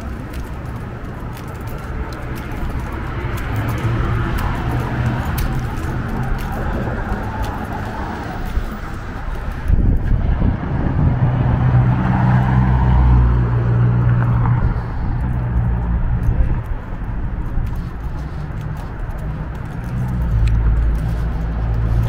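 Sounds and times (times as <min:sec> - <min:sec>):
car passing: 0:00.0 - 0:22.0
low traffic rumble: 0:00.0 - 0:22.0.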